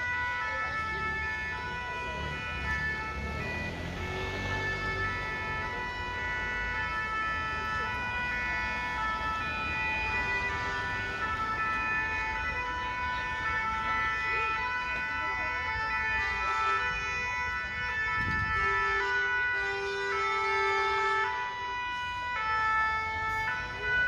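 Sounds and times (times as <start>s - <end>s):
low rumble of traffic: 0.0s - 24.0s
two-tone fire engine sirens: 0.0s - 24.0s.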